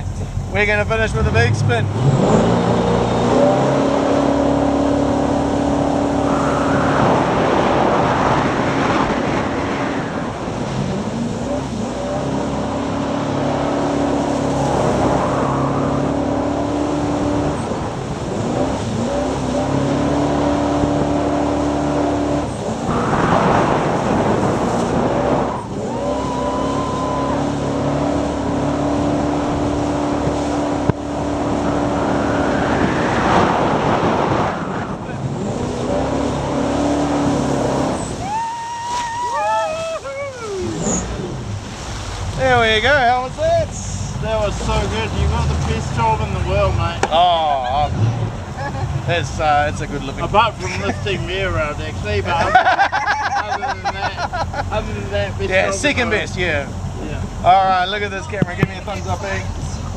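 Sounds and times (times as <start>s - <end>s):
jet boat engine running hard: 0.0s - 59.9s
rushing water and spray: 0.0s - 59.9s.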